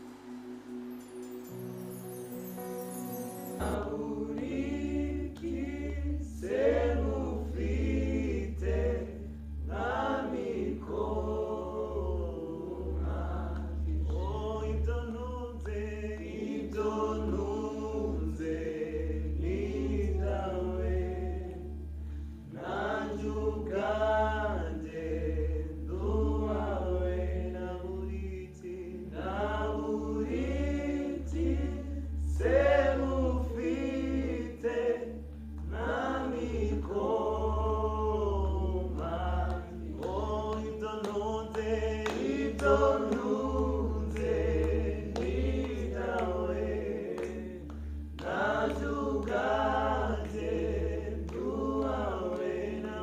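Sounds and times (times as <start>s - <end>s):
choir singing worship song: 0.0s - 53.0s
steady low hum: 3.8s - 53.0s.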